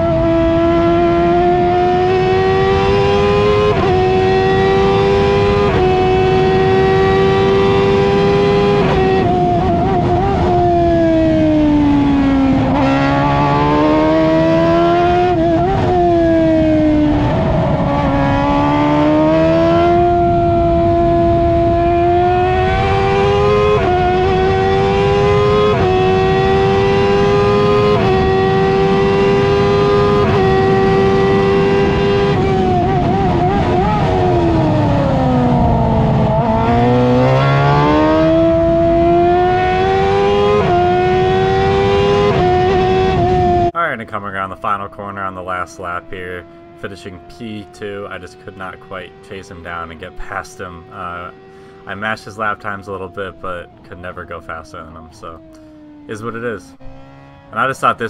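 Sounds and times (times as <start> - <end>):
race car engine revving: 0.0 - 58.0
wind and road noise: 0.0 - 58.0.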